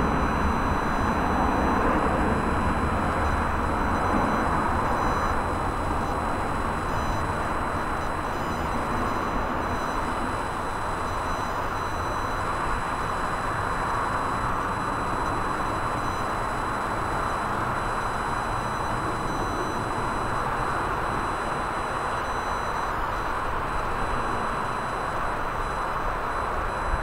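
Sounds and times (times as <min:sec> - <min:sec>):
faint high whine: 0:00.0 - 0:27.0.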